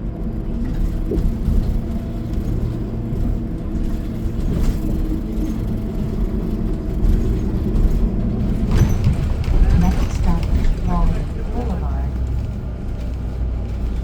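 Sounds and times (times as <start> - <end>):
bus engine low rumble: 0.0 - 14.0.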